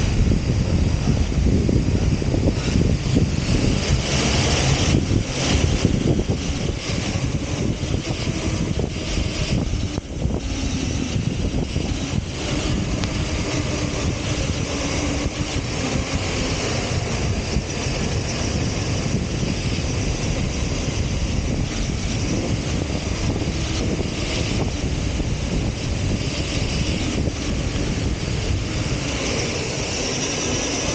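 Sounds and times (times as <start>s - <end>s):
wind on microphone: 0.0s - 30.9s
rc truck motor: 2.4s - 30.9s.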